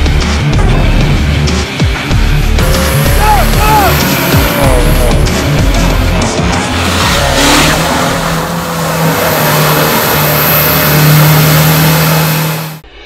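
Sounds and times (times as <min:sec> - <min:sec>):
off-road truck engine revving: 0:00.0 - 0:12.9.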